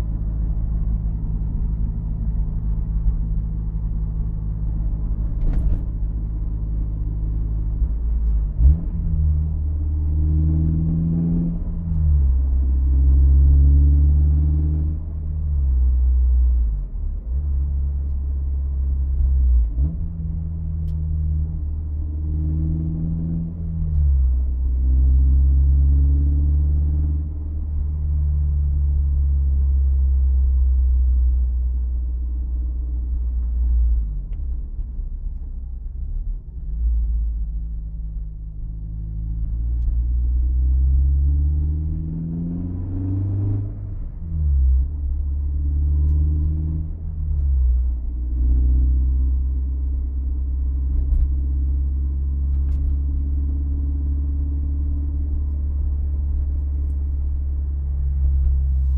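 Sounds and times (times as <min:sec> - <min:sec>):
car engine rumbling while driving: 0:00.0 - 0:58.9.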